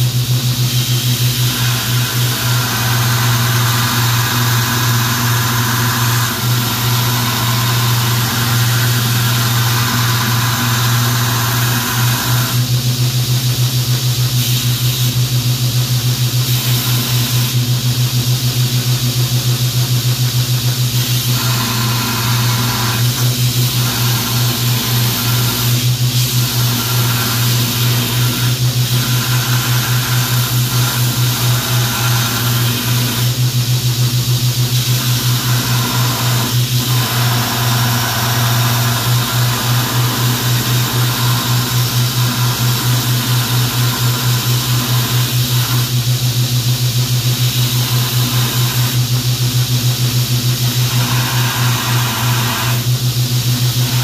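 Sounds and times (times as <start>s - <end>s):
belt grinder motor hum: 0.0s - 12.7s, 20.7s - 54.0s
steel grinding hiss on belt: 0.0s - 12.8s, 20.8s - 54.0s.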